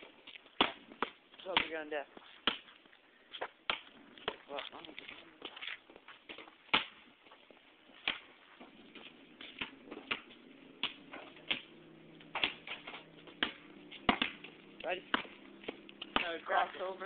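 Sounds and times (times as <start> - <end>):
basketball bouncing on pavement: 0.0 - 17.0.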